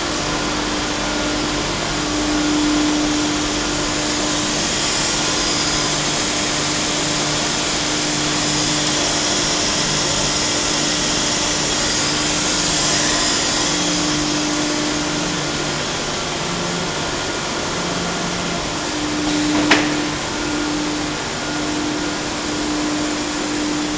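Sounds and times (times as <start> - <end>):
machinery whirring and hissing: 0.0 - 23.9.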